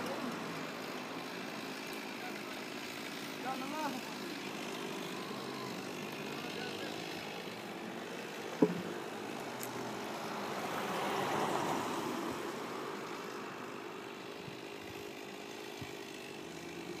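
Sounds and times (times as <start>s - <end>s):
steady engine drone: 0.0s - 17.0s.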